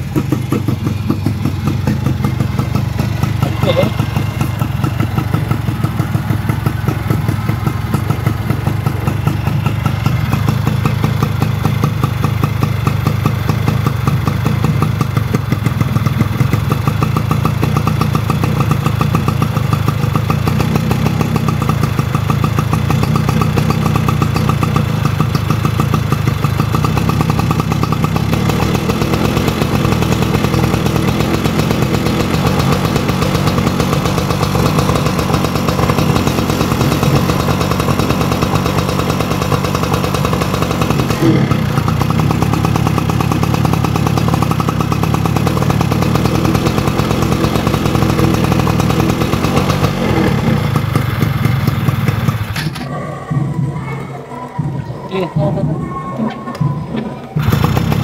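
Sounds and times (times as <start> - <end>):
two-stroke engine idling: 0.0 - 58.0.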